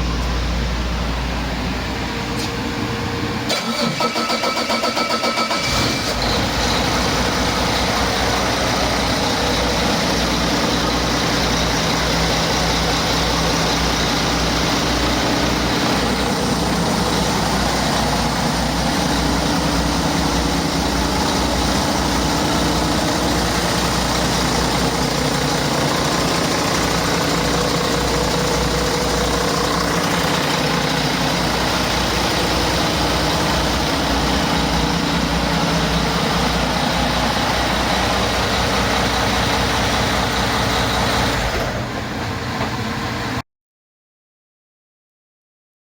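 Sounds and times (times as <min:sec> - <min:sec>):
diesel engine idling: 0:00.0 - 0:43.4.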